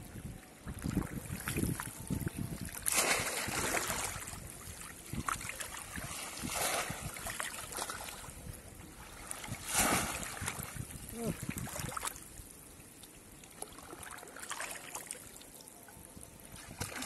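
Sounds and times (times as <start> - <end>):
water splashing and sloshing: 0.5 - 17.0.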